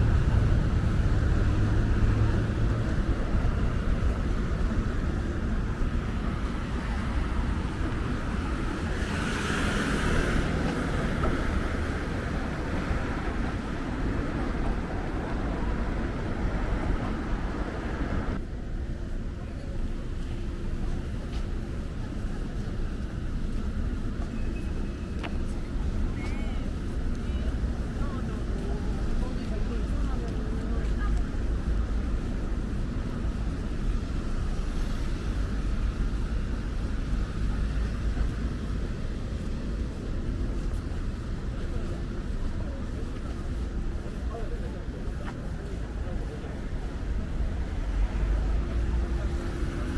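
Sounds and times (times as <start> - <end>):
low rumble of vehicle noise: 0.0 - 49.9.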